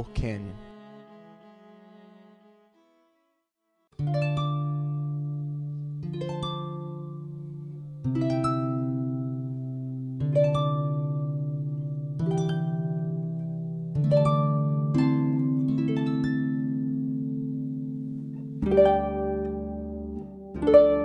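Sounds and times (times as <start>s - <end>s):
harp plucked chords: 4.0s - 21.0s.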